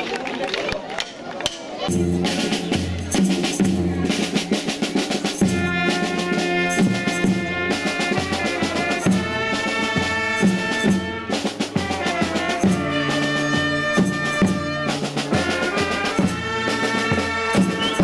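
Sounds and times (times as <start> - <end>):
trumpets and saxophones: 1.9 - 18.0.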